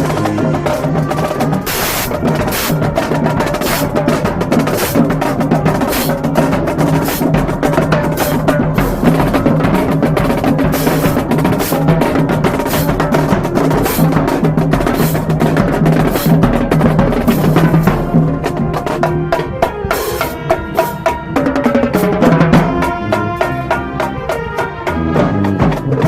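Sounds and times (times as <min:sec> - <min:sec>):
drumline snares and bass drums: 0:00.0 - 0:26.0
marching band playing: 0:00.0 - 0:26.0.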